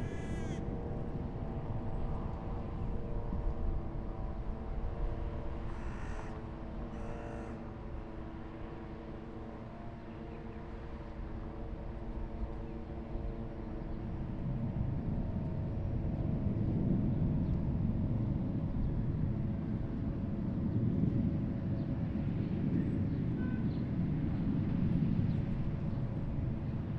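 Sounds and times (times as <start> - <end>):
faint tonal hum: 0.0 - 26.9.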